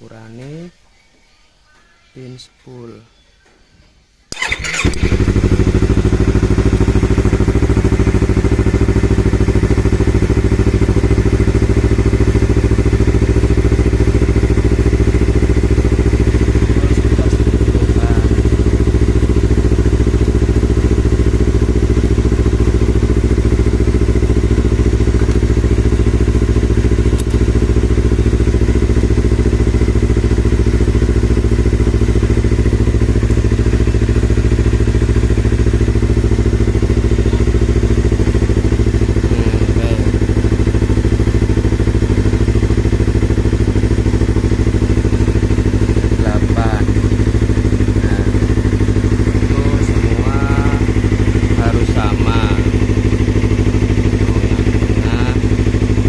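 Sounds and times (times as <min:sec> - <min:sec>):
motorcycle engine starting and idling: 0:04.3 - 0:56.0.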